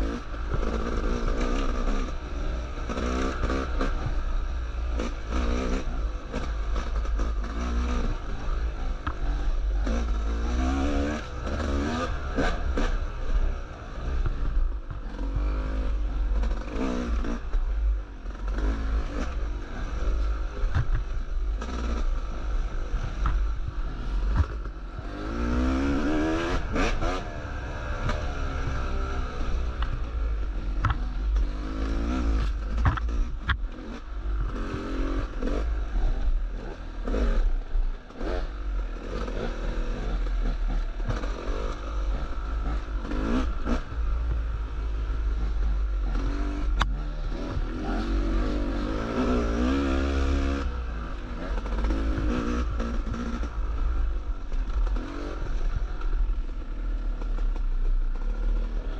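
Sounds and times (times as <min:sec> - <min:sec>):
dirt bike engine revving: 0:00.0 - 0:57.5.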